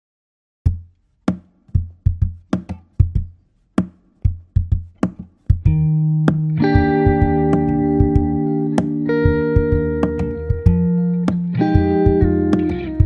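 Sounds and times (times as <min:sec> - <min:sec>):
percussion drum beat: 0:00.7 - 0:13.0.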